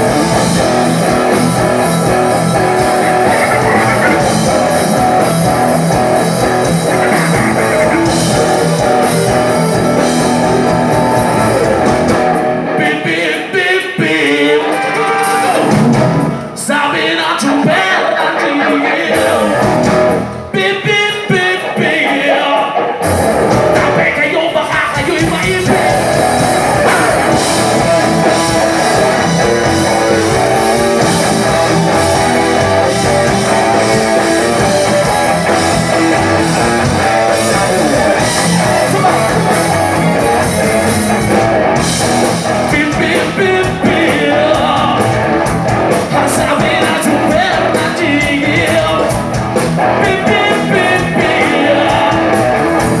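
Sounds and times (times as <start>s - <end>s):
person singing: 0.0s - 5.3s, 6.4s - 11.9s, 12.6s - 19.9s, 23.6s - 41.5s, 42.6s - 52.7s
bass and drums: 0.0s - 13.4s, 14.0s - 18.0s, 19.1s - 22.2s, 22.9s - 53.0s
electric guitar: 0.0s - 53.0s
rock band playing live: 0.0s - 53.0s.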